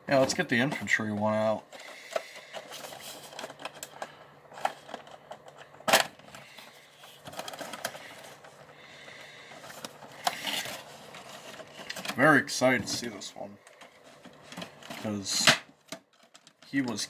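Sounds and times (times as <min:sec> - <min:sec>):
plastic crinkling: 0:00.1 - 0:12.4, 0:13.6 - 0:17.0.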